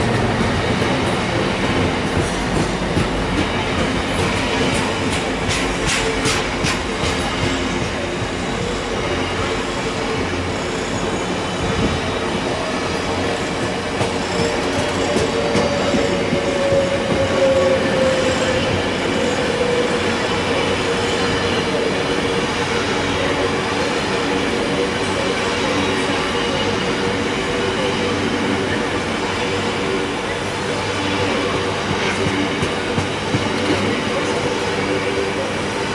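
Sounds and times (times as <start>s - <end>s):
freight train wheels rumbling: 0.0s - 35.9s.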